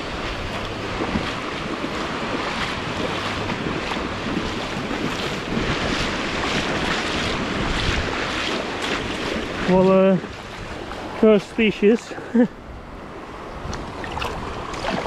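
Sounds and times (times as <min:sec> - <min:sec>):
small waves washing over sand: 0:00.0 - 0:15.0
wind buffeting microphone: 0:00.0 - 0:15.0.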